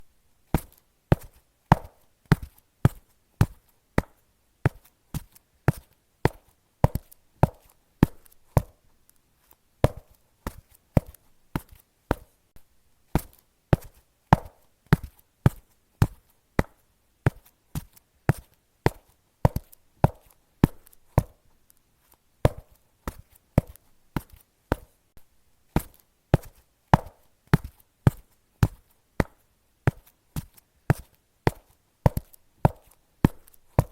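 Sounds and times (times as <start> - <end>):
footsteps on concrete: 0.6 - 8.9, 9.8 - 12.6, 13.2 - 21.5, 22.1 - 33.9.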